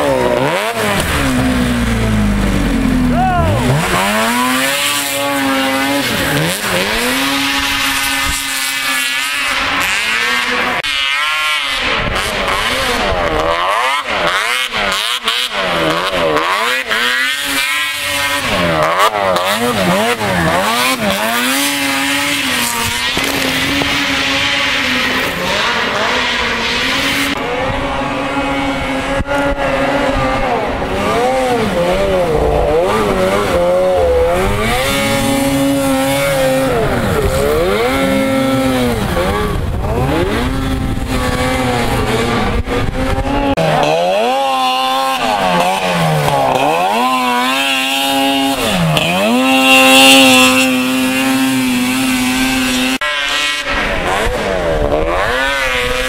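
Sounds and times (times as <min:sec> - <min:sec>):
snowmobile engines revving: 0:00.0 - 0:56.0.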